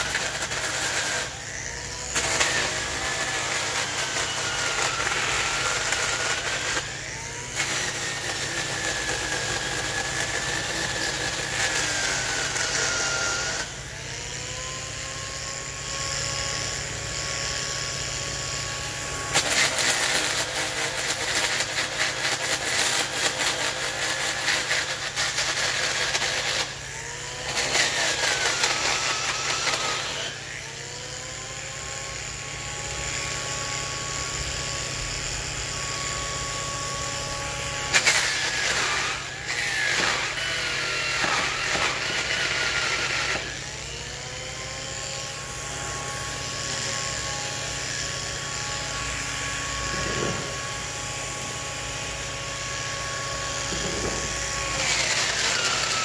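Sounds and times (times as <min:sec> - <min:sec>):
angle grinder whine: 0:00.0 - 0:56.0.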